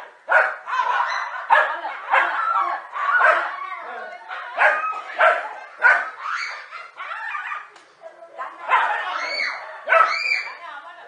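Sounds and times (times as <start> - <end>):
dogs barking aggressively: 0.0 - 7.7, 8.5 - 10.6.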